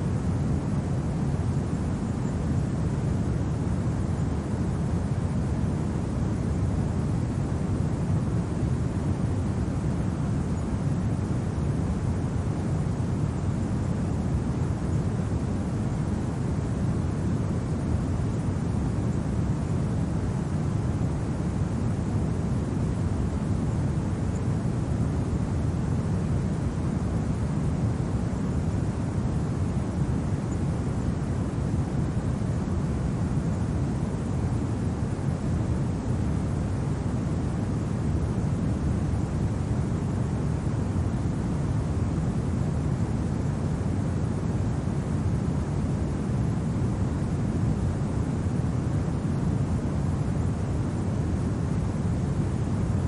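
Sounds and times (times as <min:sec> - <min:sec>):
low rumbling wind: 0:00.0 - 0:53.0.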